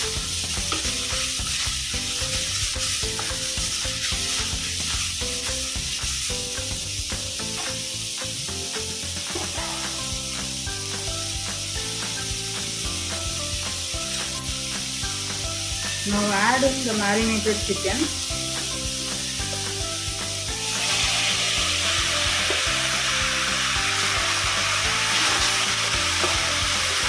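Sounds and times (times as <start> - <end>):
background music: 0.0 - 27.0
food sizzling in a pot: 0.0 - 27.0.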